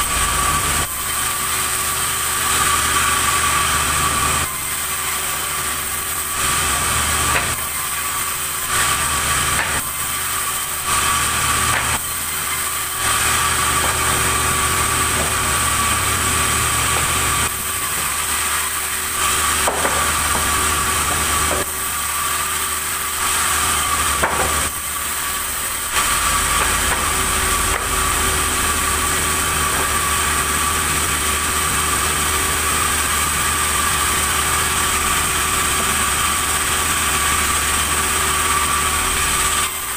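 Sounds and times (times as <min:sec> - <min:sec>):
saw blade whining: 0:00.0 - 0:39.9
saw motor humming: 0:00.0 - 0:39.9.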